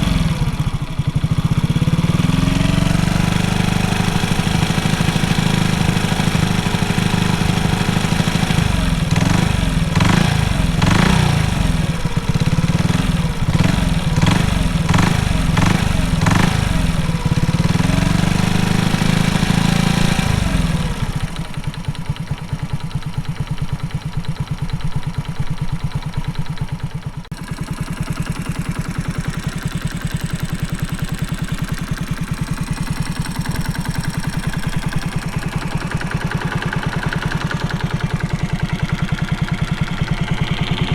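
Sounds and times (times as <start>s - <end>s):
metallic knocking in engine: 0.0s - 40.9s
motorcycle engine revving and idling: 0.0s - 40.9s.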